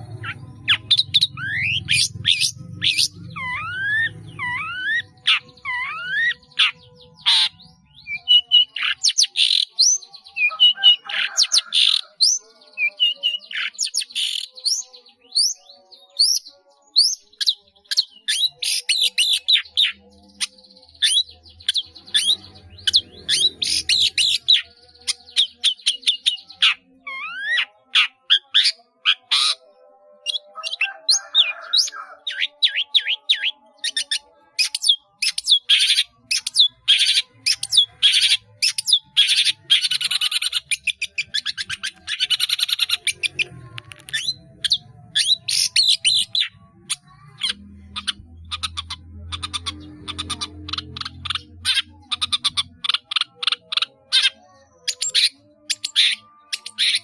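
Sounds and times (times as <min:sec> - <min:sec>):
bird song with chirps and trills: 0:00.0 - 0:57.0.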